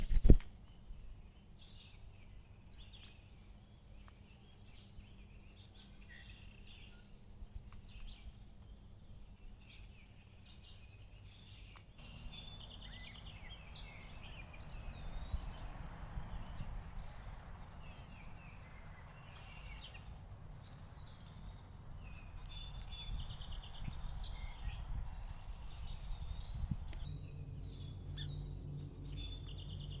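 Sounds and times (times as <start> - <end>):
finches chirping and warbling: 2.7 - 30.0.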